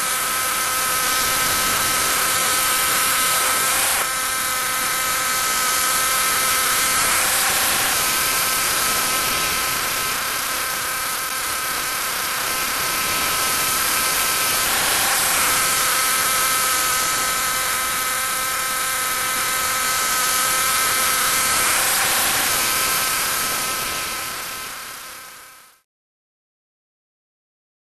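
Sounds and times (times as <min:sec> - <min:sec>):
small tiller engine running: 0:00.0 - 0:25.8.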